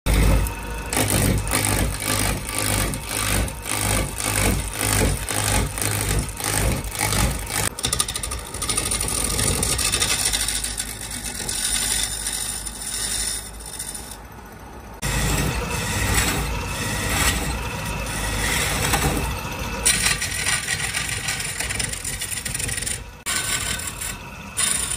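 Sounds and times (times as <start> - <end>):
lathe chisel scraping wood: 0.1 - 24.9.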